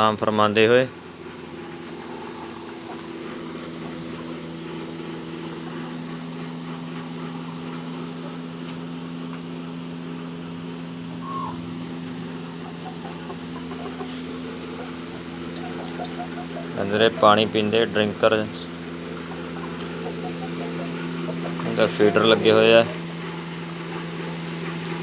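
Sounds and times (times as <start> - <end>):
steady mechanical hum: 0.0 - 25.0
chickens calling: 0.3 - 25.0.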